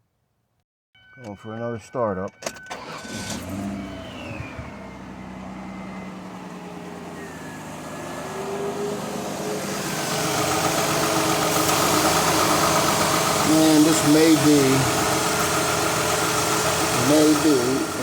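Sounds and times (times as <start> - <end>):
car engine idling with misfire: 2.7 - 18.0.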